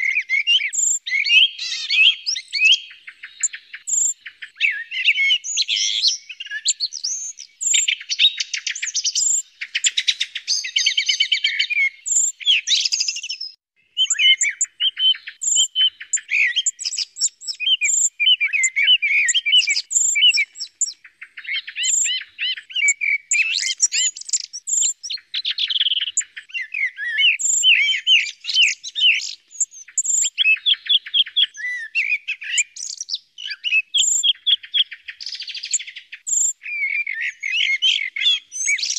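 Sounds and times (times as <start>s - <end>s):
blackbird and thrush song: 0.0s - 38.9s.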